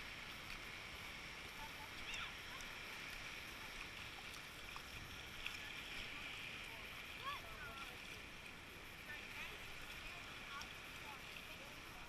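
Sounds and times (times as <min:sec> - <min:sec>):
shallow surf: 0:00.0 - 0:12.0
wind: 0:00.0 - 0:12.0.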